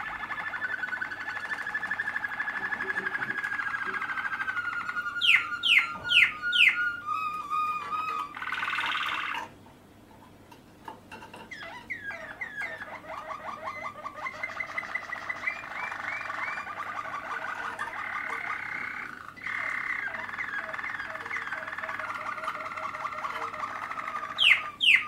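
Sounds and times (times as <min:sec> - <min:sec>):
canary singing: 0:00.0 - 0:09.6, 0:10.4 - 0:25.0.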